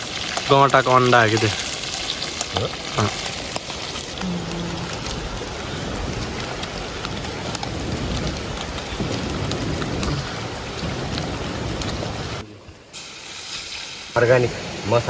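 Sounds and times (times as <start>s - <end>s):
small pops and crackles: 0.0s - 12.4s
crabs sizzling in hot oil: 0.0s - 15.0s.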